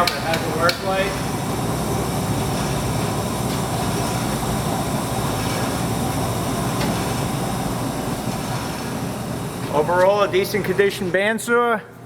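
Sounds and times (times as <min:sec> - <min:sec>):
bandsaw running: 0:00.0 - 0:11.2.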